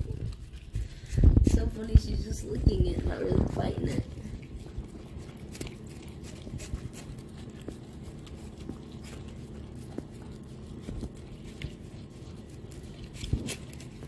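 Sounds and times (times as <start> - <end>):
puppy licking: 0.0 - 14.0.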